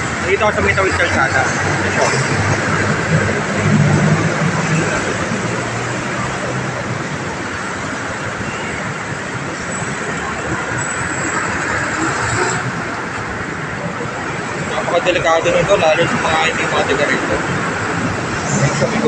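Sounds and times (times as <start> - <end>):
busy road traffic: 0.0 - 19.0.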